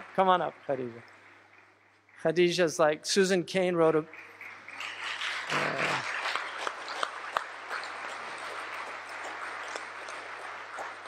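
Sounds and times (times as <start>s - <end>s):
audience clapping: 0.0s - 2.4s, 4.2s - 11.0s.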